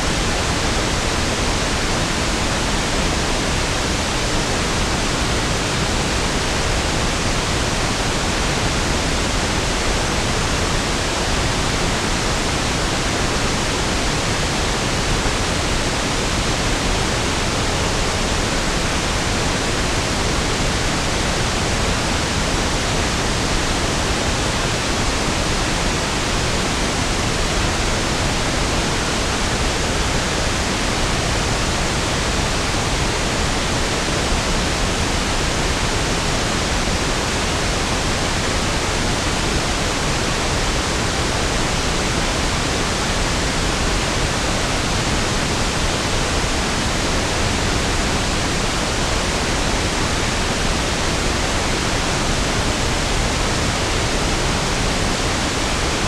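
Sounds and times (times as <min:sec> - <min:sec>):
pink noise hiss: 0:00.0 - 0:56.0.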